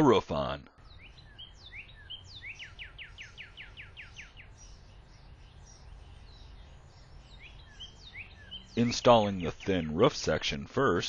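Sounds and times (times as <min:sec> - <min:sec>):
low steady background hum: 0:00.0 - 0:11.0
songbirds chirping: 0:00.0 - 0:11.0.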